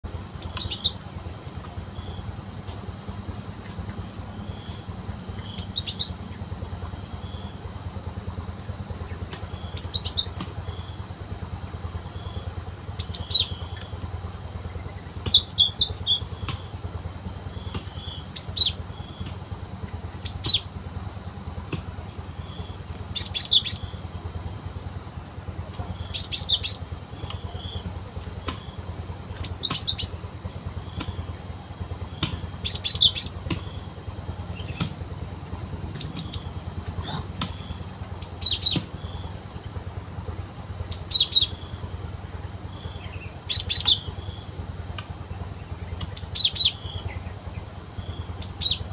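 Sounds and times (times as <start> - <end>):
low hum: 0.0 - 48.9.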